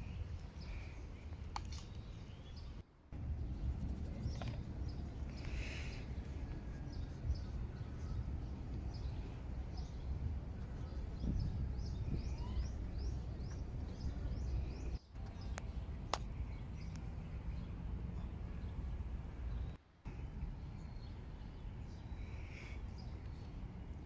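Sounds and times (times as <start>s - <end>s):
low outdoor rumble: 0.0s - 24.0s
small birds chirping: 0.0s - 24.0s.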